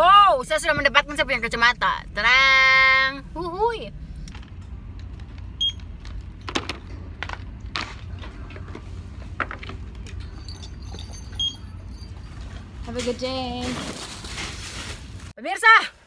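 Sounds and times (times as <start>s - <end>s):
steady low hum: 0.0s - 15.3s.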